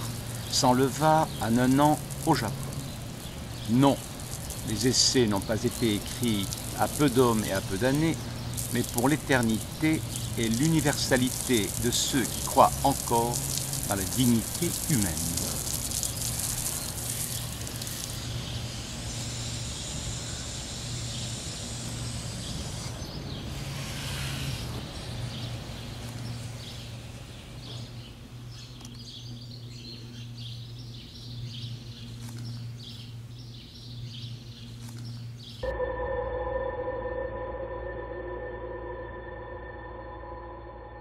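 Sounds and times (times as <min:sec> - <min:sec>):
small birds chirping: 0:00.0 - 0:35.6
steady low hum: 0:00.0 - 0:41.0.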